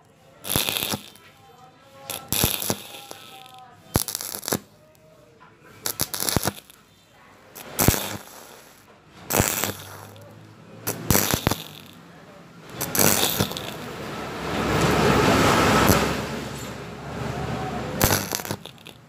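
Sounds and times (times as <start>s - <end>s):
welding arc crackling and sizzling: 0.4s - 4.9s, 5.8s - 12.0s, 12.6s - 19.0s.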